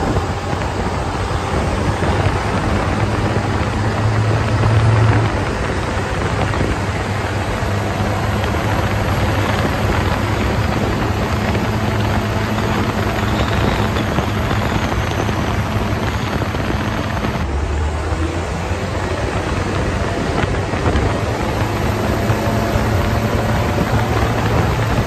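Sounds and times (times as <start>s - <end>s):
diesel engine drone: 0.0s - 25.0s
road noise: 0.0s - 25.0s
wind noise: 0.0s - 25.0s.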